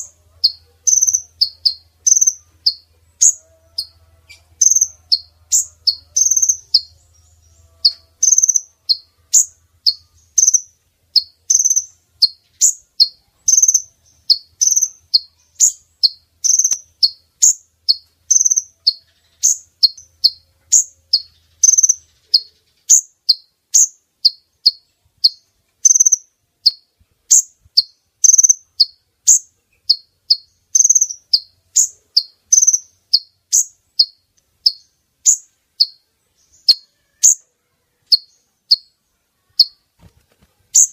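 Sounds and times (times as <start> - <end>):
bird high chirps: 0.0 - 40.9.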